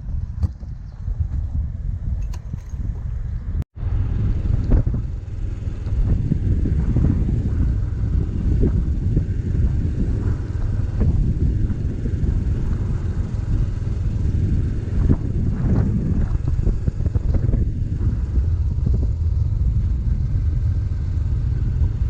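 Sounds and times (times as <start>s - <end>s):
motorcycle engine rumble: 0.0s - 22.0s
road noise: 0.0s - 22.0s.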